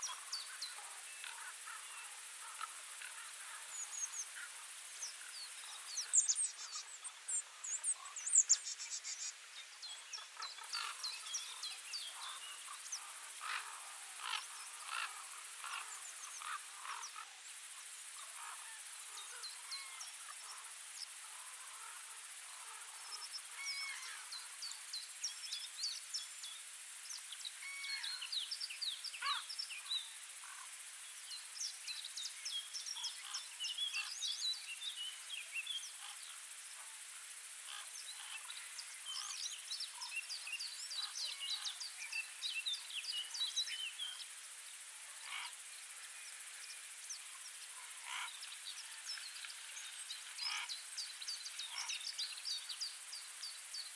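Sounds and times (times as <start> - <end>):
small birds chirping: 0.0 - 36.4, 37.7 - 44.4, 46.4 - 53.9
steady high hiss: 0.0 - 53.9.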